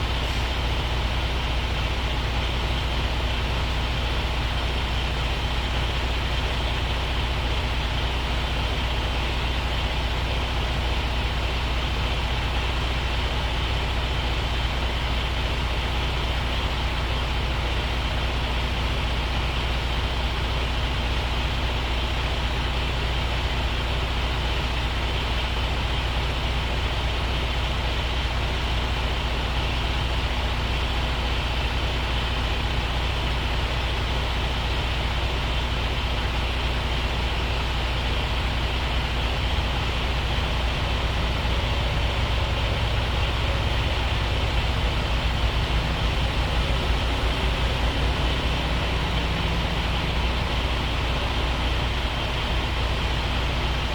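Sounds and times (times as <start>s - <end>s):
truck diesel engine humming: 0.0s - 53.9s.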